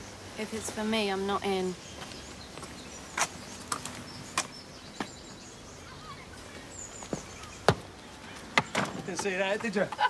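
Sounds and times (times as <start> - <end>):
bird chirps: 0.0 - 9.5.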